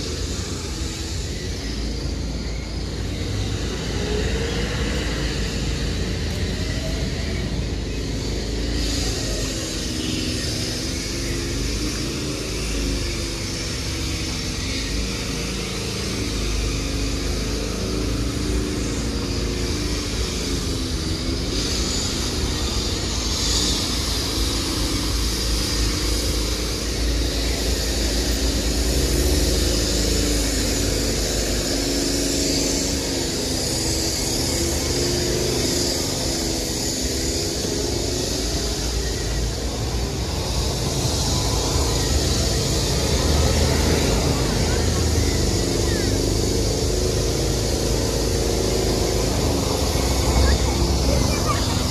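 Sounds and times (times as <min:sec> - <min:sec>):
street traffic rumble: 0:00.0 - 0:51.9.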